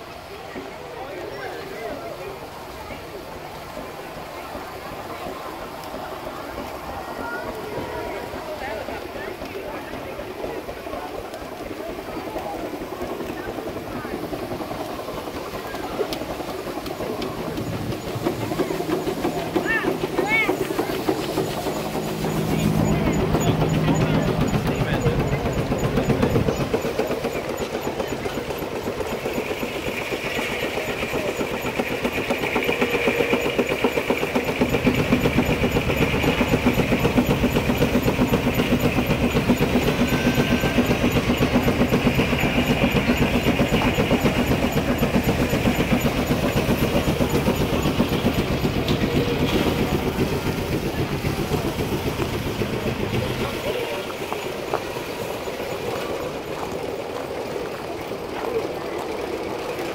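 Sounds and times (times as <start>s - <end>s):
steam engine exhaust beats: 0.0s - 59.9s
steam hissing: 0.0s - 59.9s.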